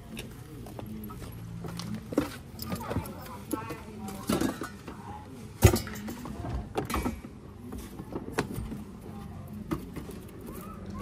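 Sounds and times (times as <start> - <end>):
items clattering: 1.2 - 11.0.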